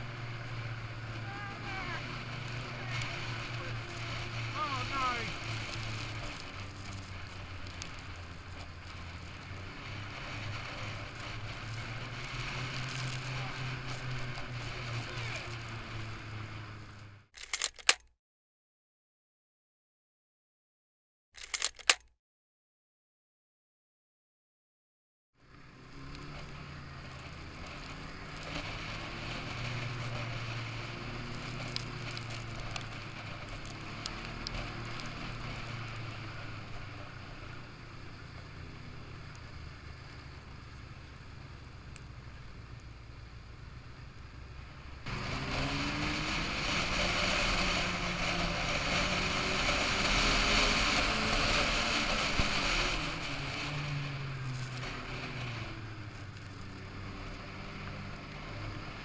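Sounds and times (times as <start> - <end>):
snowmobile engine running: 0.0 - 17.2, 25.8 - 42.5, 43.8 - 59.0
track and wind noise: 0.0 - 18.0, 25.4 - 59.0.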